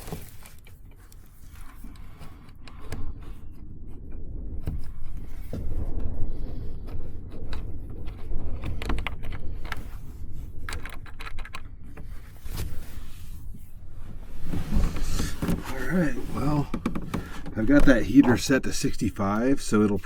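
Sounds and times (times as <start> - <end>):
steady low rumble: 0.4 - 20.0.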